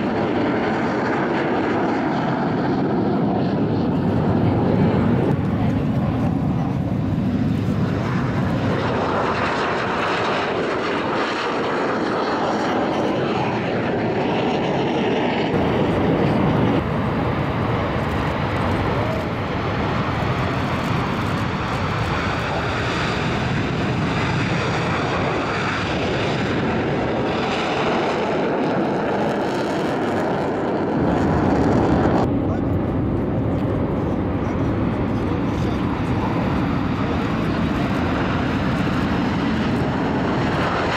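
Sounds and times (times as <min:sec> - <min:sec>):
jet aircraft taking off: 0:00.0 - 0:40.9.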